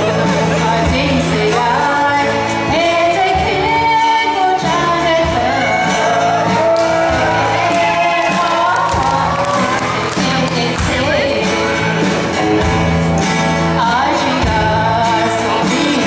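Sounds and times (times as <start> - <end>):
woman singing: 0.0 - 13.0, 13.6 - 16.0
instrumental accompaniment: 0.0 - 16.0.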